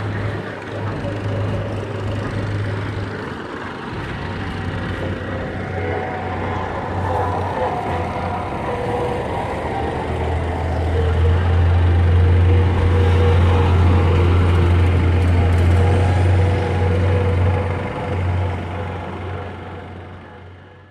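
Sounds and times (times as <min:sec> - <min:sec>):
vehicle engine humming: 0:00.0 - 0:20.9.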